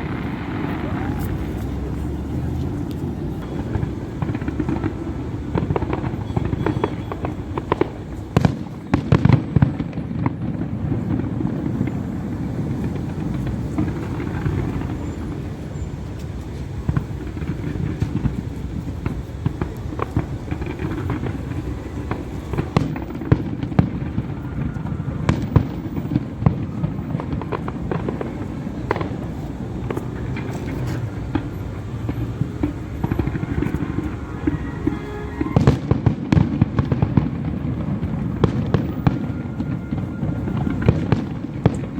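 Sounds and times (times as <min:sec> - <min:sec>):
fireworks banging and crackling: 0:00.0 - 0:41.9.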